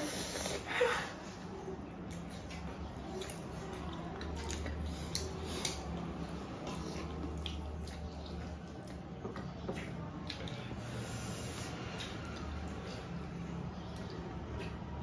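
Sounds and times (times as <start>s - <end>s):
chewing: 1.9s - 15.0s.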